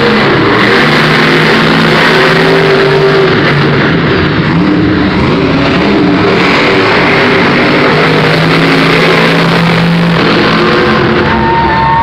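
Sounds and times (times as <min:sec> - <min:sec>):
monster truck engines revving: 0:00.0 - 0:12.0.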